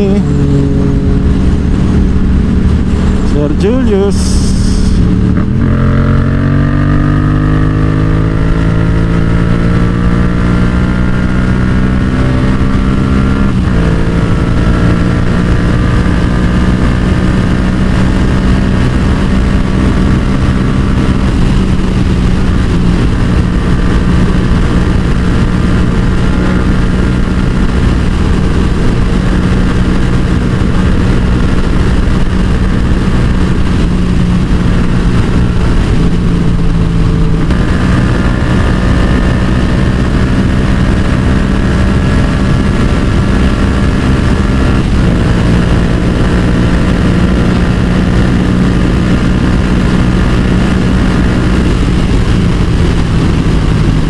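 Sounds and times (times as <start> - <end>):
heavy wind noise: 0.0 - 54.0
motorcycle engine pulling hard: 0.0 - 54.0.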